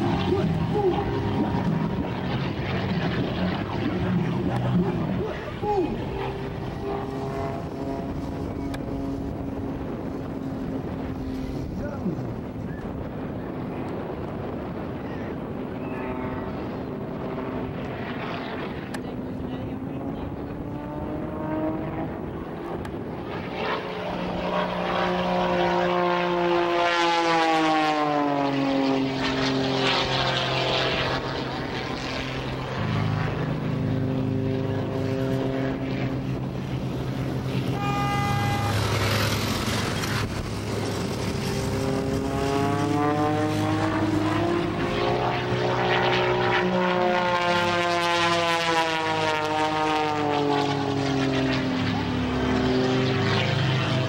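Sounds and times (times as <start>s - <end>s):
propeller plane engine passing: 0.0s - 54.0s.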